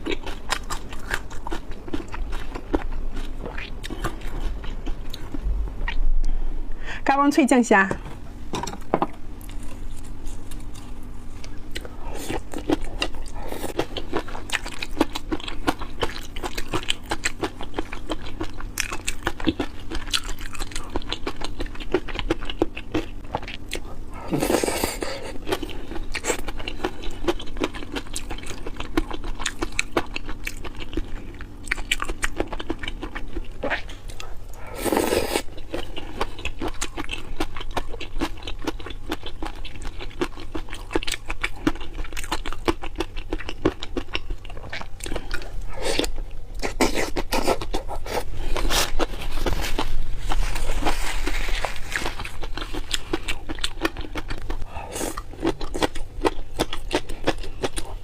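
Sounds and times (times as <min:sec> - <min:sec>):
crunchy chewing: 0:00.0 - 0:06.0, 0:09.4 - 0:58.0.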